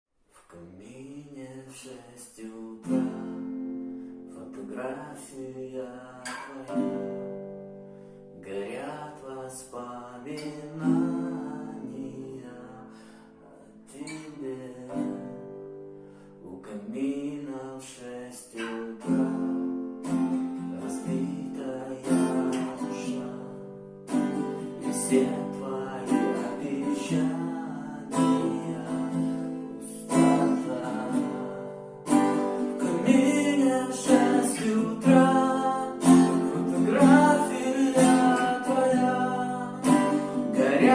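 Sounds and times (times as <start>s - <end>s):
person singing: 0.5s - 3.5s, 4.3s - 7.2s, 8.3s - 15.4s, 16.4s - 40.9s
acoustic guitar strumming: 2.8s - 16.4s, 18.3s - 40.9s.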